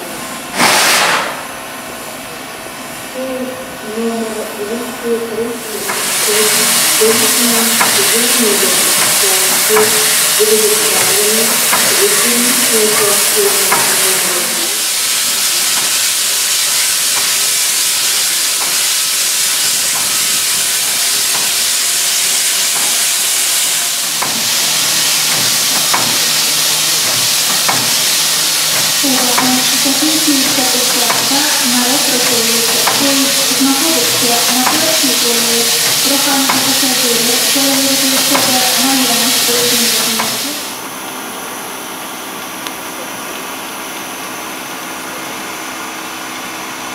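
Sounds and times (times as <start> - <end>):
steam locomotive hissing steam: 0.0 - 46.9.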